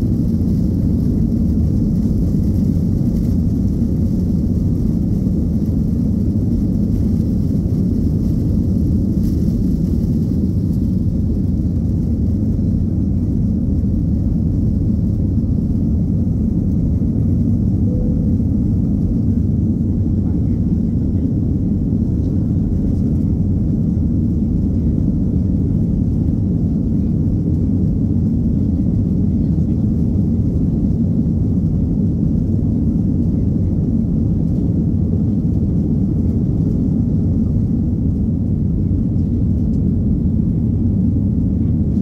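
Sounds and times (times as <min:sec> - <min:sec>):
jet engines rumbling in cabin: 0:00.0 - 0:42.0.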